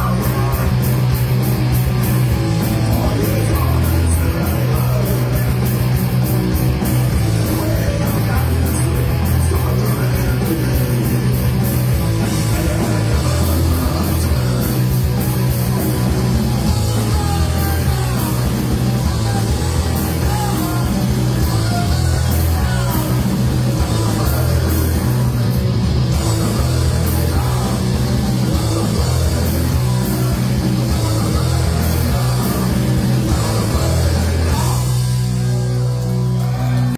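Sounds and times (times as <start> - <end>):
live rock band playing: 0.0 - 36.9.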